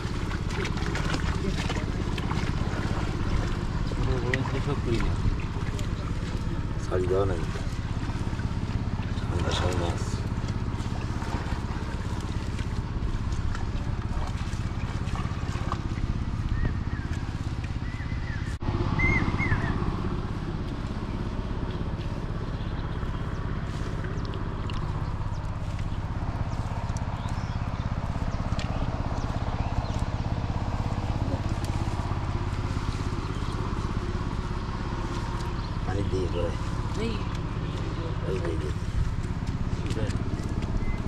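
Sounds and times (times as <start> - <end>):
small engine droning: 0.0 - 41.0.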